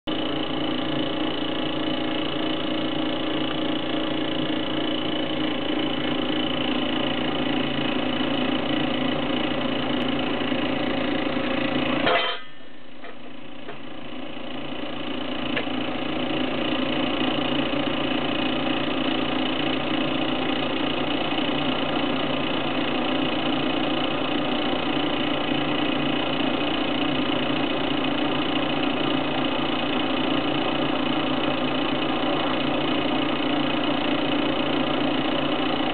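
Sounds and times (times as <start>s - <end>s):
engine generator humming: 0.1s - 35.9s.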